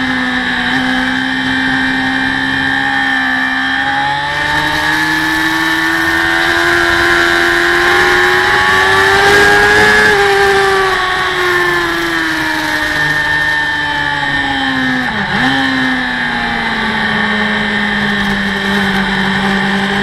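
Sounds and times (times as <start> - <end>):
racing motorcycle engine revving: 0.0 - 20.0.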